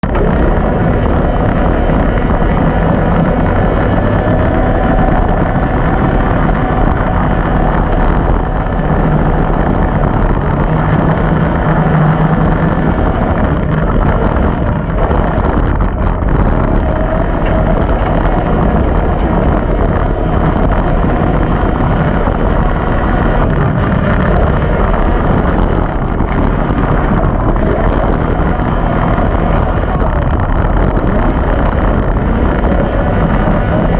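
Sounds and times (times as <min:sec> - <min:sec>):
engine running hard: 0:00.0 - 0:33.9.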